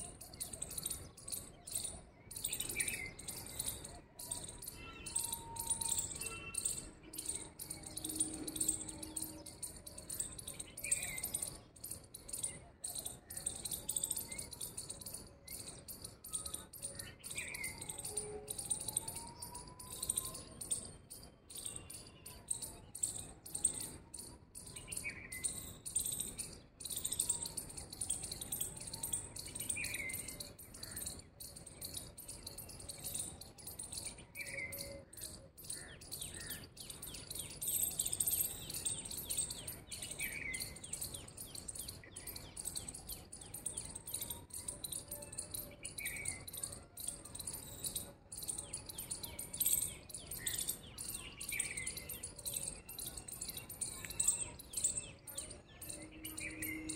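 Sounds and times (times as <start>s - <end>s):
small birds chirping: 0.0s - 18.2s, 19.4s - 56.9s.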